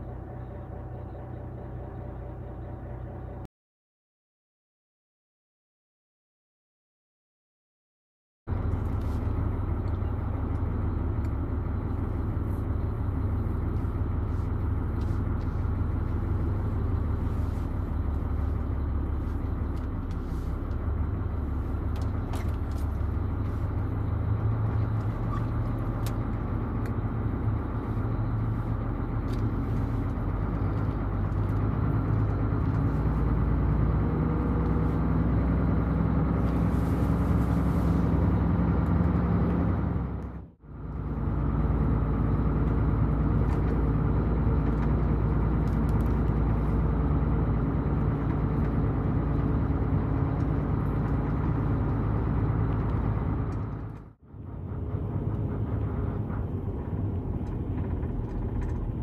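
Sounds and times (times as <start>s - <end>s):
truck diesel engine droning: 0.0s - 3.5s, 8.5s - 59.0s.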